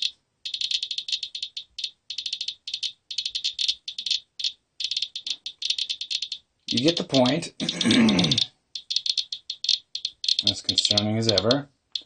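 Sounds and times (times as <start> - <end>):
geiger counter clicking: 0.0 - 12.0.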